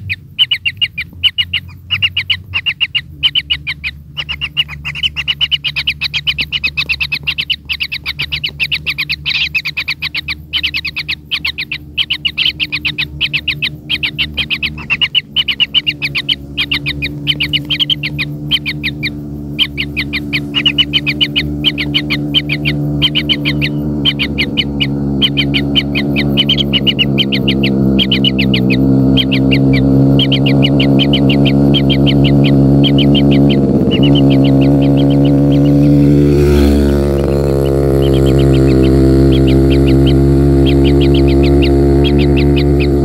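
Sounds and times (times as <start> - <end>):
chicks chirping: 0.0 - 43.0
low steady hum: 0.0 - 43.0.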